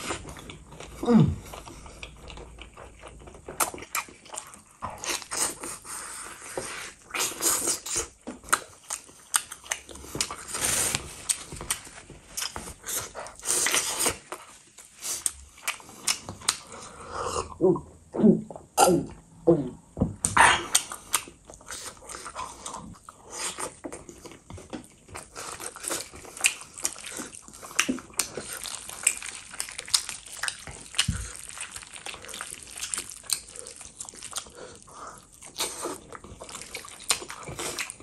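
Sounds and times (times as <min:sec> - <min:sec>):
wet chewing and lip smacks: 0:00.0 - 0:17.0, 0:20.2 - 0:38.0.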